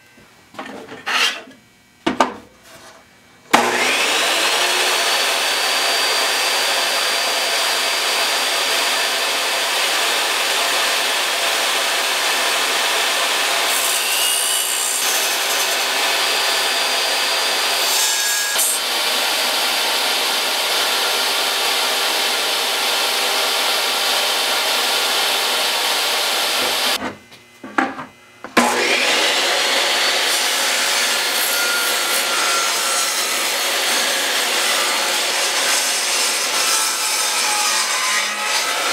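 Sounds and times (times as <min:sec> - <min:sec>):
table saw ripping a board: 0:01.0 - 0:01.5, 0:03.5 - 0:27.0, 0:28.6 - 0:38.9.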